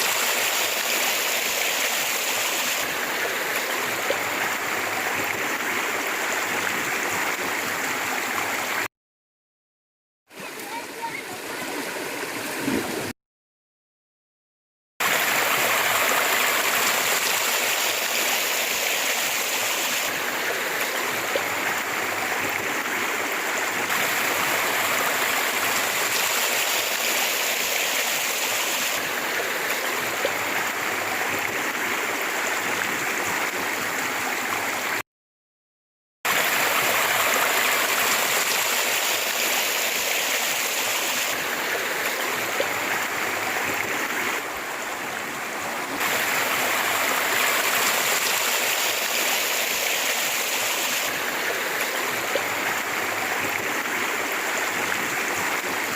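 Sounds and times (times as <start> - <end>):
river water rushing: 0.0 - 8.9, 15.0 - 35.0, 36.3 - 55.9.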